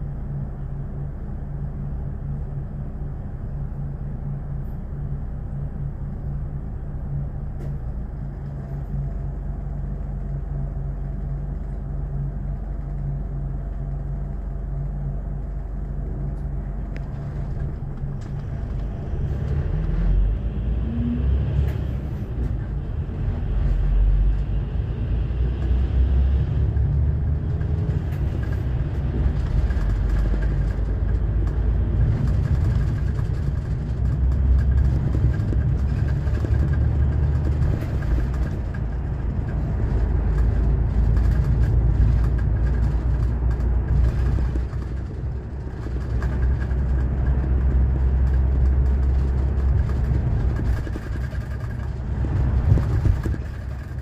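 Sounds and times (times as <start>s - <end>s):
coach diesel engine: 0.0s - 54.0s
road noise: 0.0s - 54.0s.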